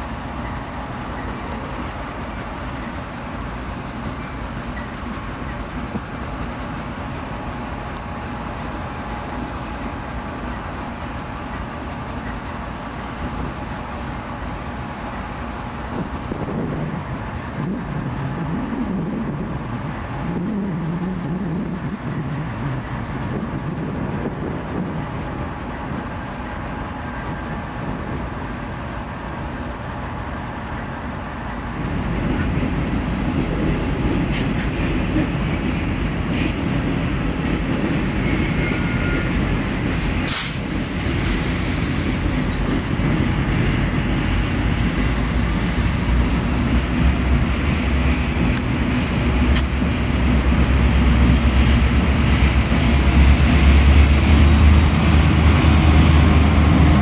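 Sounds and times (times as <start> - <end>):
diesel locomotive rumble: 0.0 - 57.0
faint engine whine: 4.1 - 57.0.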